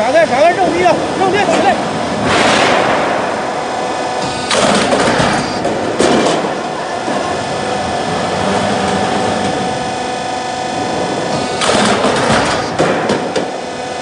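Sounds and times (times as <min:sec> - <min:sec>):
roll forming machine humming: 0:00.0 - 0:14.0
rushes of machine noise: 0:00.0 - 0:14.0.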